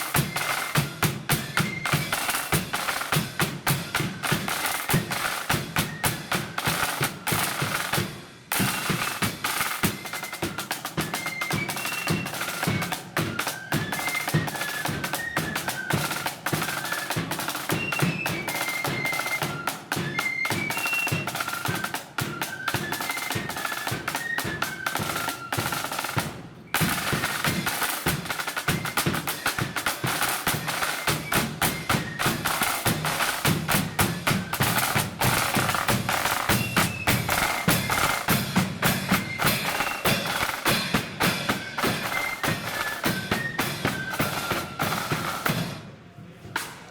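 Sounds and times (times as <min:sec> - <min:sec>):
flute melody: 0:00.0 - 0:45.7
snare drumming: 0:00.0 - 0:45.8, 0:46.5 - 0:46.9.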